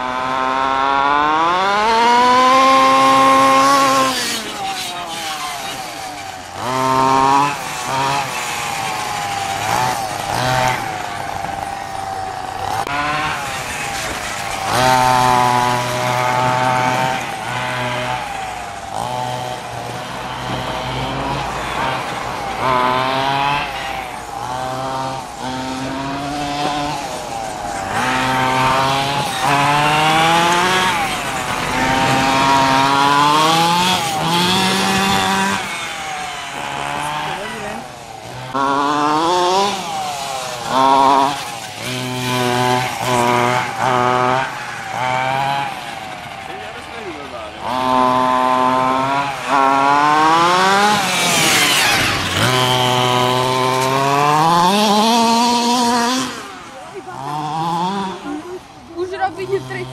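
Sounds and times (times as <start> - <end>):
small two-stroke engine revving: 0.0 - 59.9.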